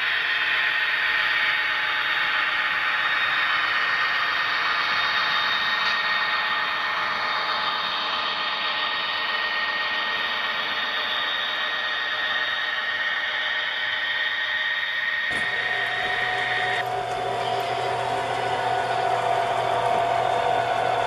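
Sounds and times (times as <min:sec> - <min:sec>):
model train running past: 0:00.0 - 0:21.0.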